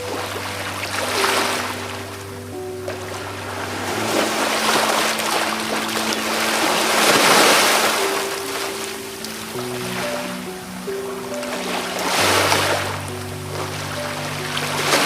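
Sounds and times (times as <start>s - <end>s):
sea waves breaking: 0.0s - 15.0s
soft ambient music: 0.0s - 15.0s.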